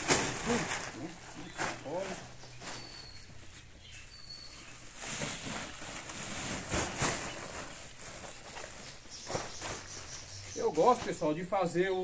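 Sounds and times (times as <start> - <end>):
plastic sack rustling: 0.0 - 11.7.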